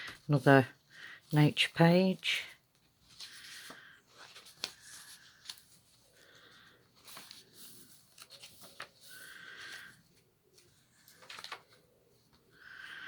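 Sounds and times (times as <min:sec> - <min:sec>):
paper pages rustling: 0:02.4 - 0:13.0.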